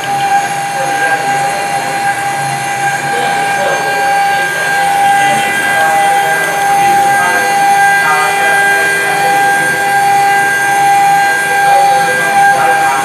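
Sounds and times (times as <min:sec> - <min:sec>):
milling machine spindle whine: 0:00.0 - 0:13.0.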